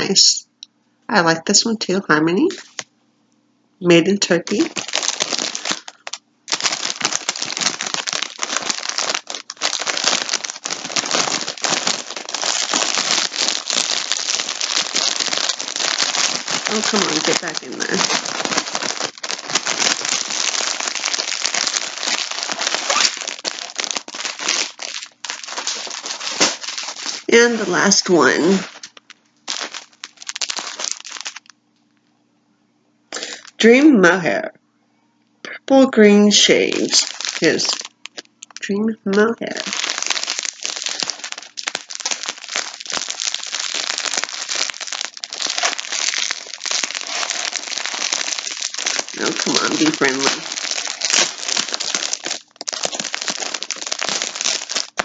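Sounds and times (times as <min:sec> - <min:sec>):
plastic bag crinkling: 0:02.4 - 0:02.9, 0:04.3 - 0:32.0, 0:33.2 - 0:33.9, 0:36.0 - 0:55.0.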